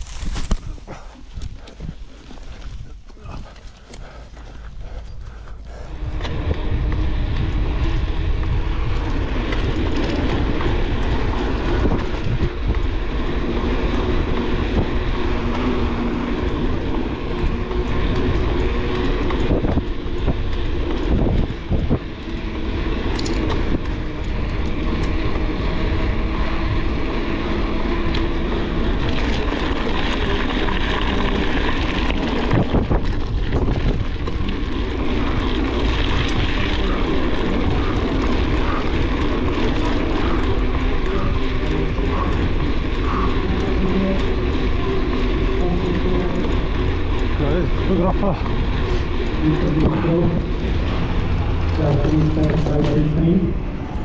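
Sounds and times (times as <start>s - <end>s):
tyres droning on ground: 0.0s - 54.0s
wind rushing over microphone: 0.0s - 54.0s.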